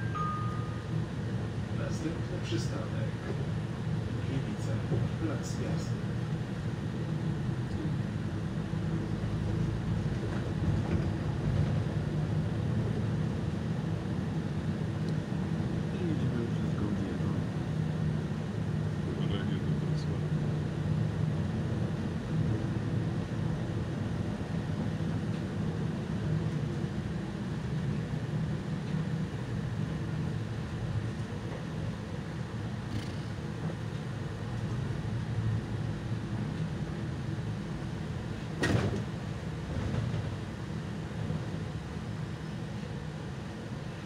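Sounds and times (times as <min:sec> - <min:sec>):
bus engine hum: 0:00.0 - 0:44.0.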